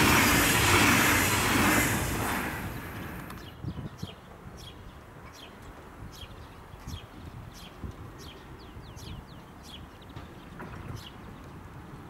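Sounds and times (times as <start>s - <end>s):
low rumble of wind or traffic: 0.0s - 12.0s.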